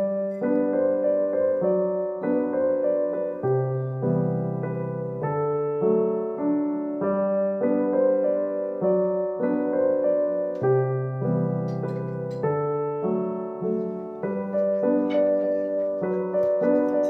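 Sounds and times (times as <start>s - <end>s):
piano tune: 0.0s - 17.0s.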